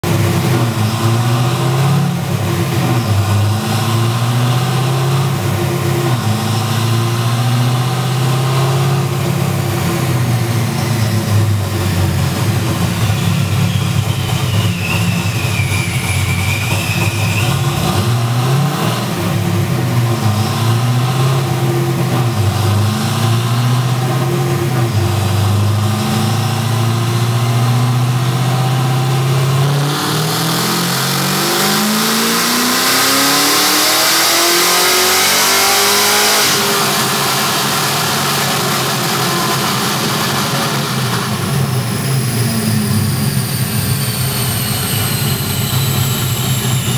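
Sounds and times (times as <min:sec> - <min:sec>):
car engine on dynamometer: 0:00.0 - 0:46.9.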